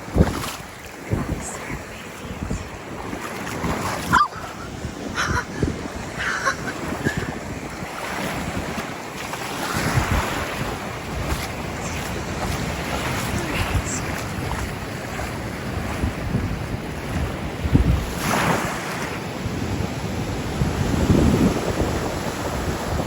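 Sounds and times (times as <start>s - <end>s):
ocean waves washing on shore: 0.0s - 23.0s
wind buffeting microphone: 0.0s - 23.0s.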